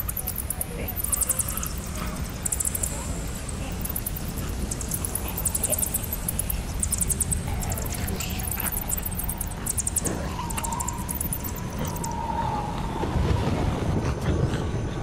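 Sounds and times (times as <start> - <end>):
steady low rumble: 0.0 - 12.1
rapid high-pitched chirps: 0.0 - 12.2
thin steady tone: 0.0 - 12.2.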